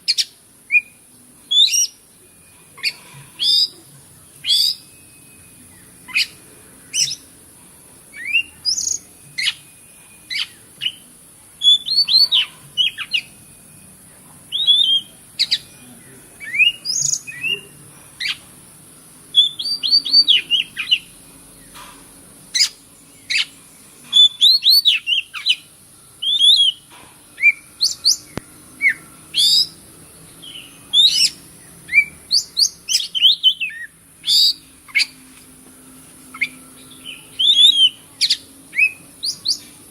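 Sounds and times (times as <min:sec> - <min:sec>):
bird singing whistles and chirps: 0:00.0 - 0:03.8, 0:04.4 - 0:07.3, 0:08.1 - 0:13.9, 0:14.5 - 0:18.4, 0:19.3 - 0:21.8, 0:22.5 - 0:29.8, 0:30.4 - 0:35.2, 0:36.3 - 0:39.7.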